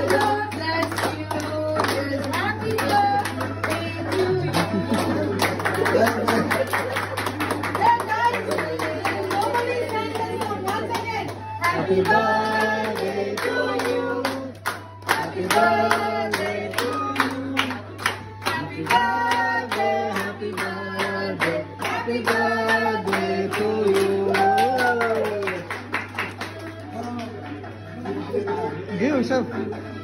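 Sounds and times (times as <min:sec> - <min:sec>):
group singing a celebration song: 0:00.0 - 0:25.3
people clapping along: 0:00.0 - 0:28.3.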